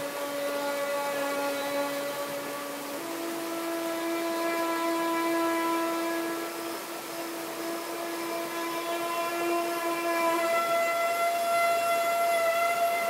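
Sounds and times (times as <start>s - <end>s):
rushing stream: 0.0s - 13.0s
saxophone long note: 0.0s - 13.0s.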